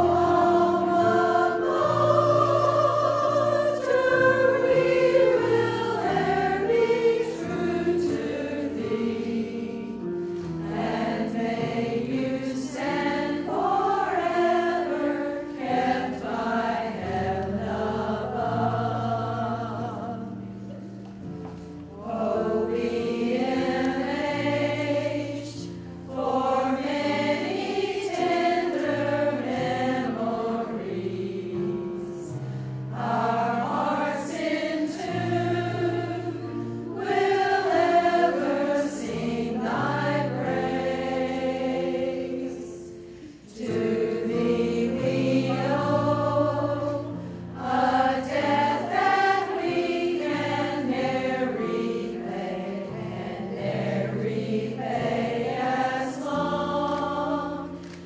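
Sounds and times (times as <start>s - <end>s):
women's choir singing: 0.0s - 58.0s.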